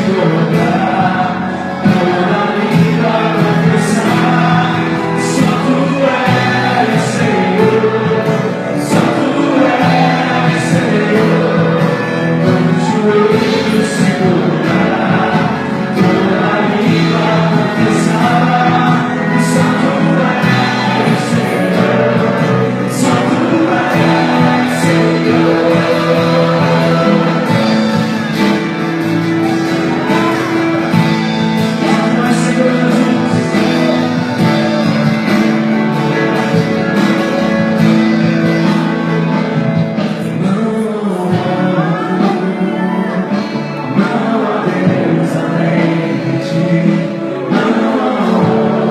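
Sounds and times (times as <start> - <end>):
band playing worship music: 0.0 - 48.9
group singing: 0.0 - 48.9.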